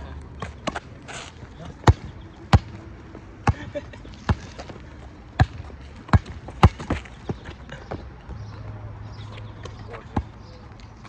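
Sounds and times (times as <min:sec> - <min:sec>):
basketball bouncing on asphalt: 0:00.4 - 0:01.0, 0:01.7 - 0:10.9.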